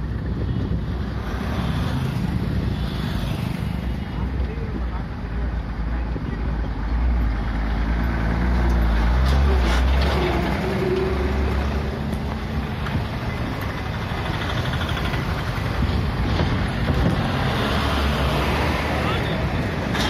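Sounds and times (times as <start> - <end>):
motorcycles passing: 0.0 - 20.0
road noise: 0.0 - 20.0
trucks passing: 0.0 - 20.0
vehicle engine rumble: 0.0 - 20.0.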